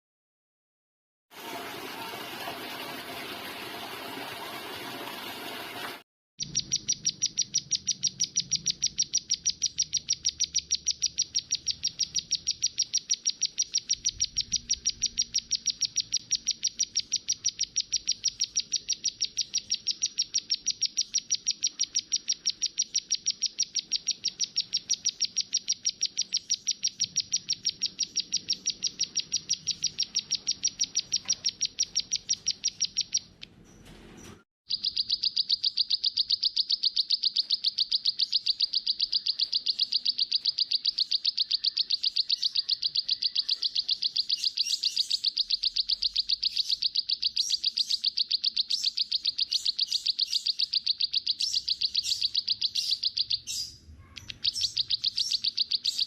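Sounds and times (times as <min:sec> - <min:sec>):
songbird chirping rapidly: 0:06.4 - 0:33.8, 0:34.7 - 0:56.0.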